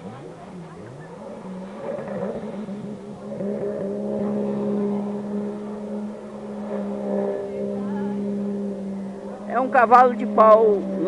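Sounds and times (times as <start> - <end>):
jet ski engine revving: 0.0 - 11.0.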